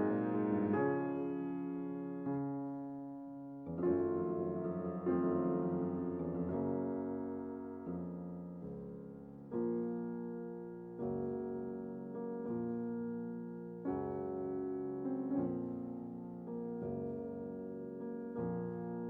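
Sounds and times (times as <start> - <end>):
gentle piano chords: 0.0 - 19.0.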